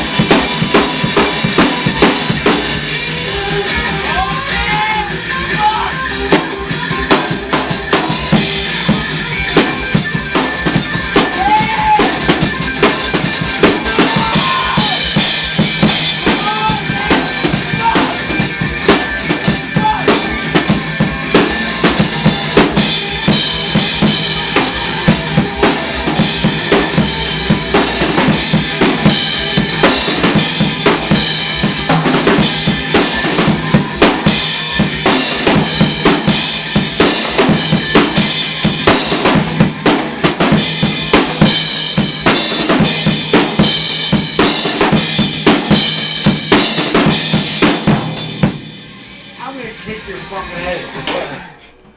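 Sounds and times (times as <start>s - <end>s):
rock drum kit playing: 0.0s - 51.9s
rock music: 0.0s - 51.9s.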